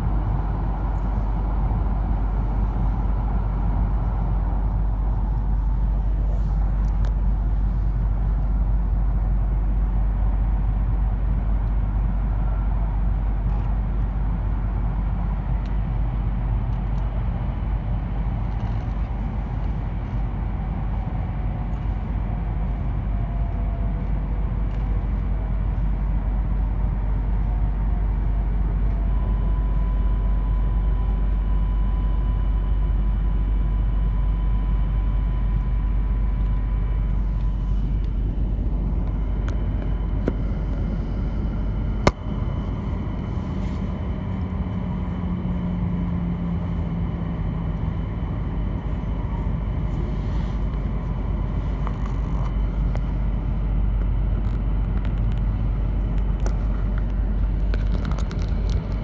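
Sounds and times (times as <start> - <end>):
faint whines: 0.0 - 59.0
train cabin rumble: 0.0 - 59.0.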